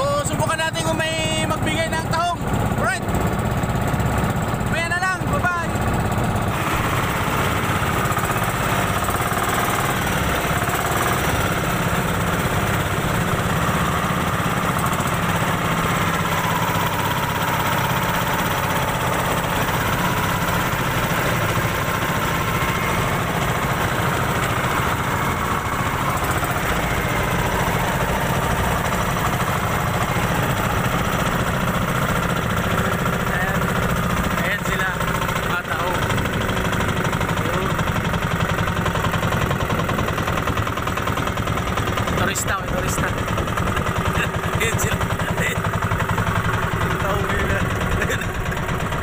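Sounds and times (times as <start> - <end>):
small boat engine chugging: 0.0 - 49.0.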